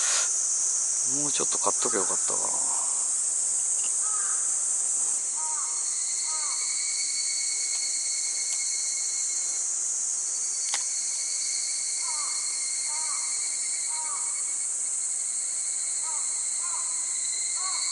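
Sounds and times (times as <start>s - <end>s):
high-pitched insect chorus: 0.0s - 17.9s
insect buzzing: 0.0s - 17.9s.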